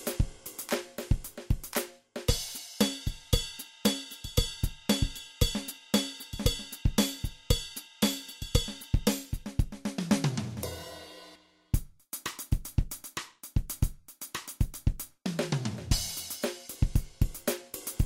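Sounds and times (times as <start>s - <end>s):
instrumental music with drum beat: 0.0s - 18.0s.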